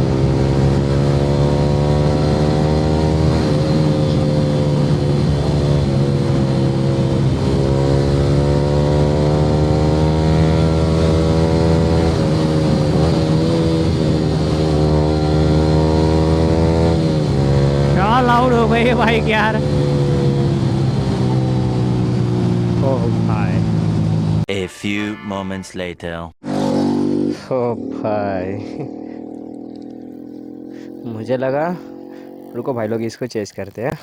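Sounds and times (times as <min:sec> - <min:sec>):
motorcycle engine running: 0:00.0 - 0:24.4, 0:26.5 - 0:34.0.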